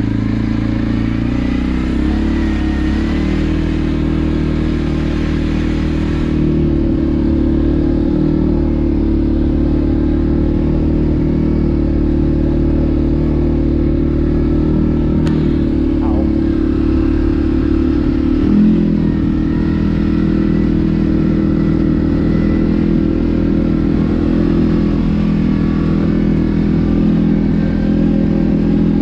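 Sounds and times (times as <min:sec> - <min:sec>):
atv engine droning: 0:00.0 - 0:29.0.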